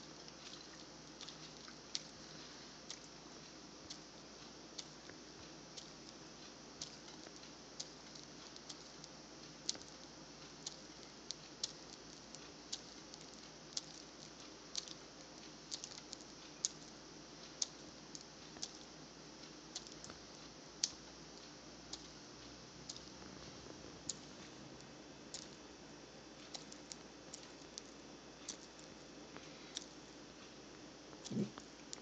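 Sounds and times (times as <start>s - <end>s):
iguana chewing: 0.0s - 22.2s, 22.8s - 25.7s, 26.3s - 30.5s, 31.1s - 32.0s.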